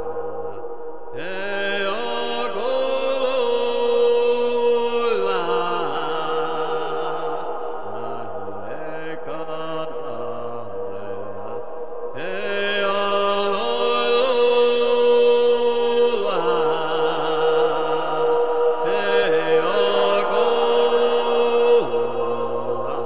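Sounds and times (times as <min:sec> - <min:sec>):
low voice chanting: 0:00.0 - 0:23.0.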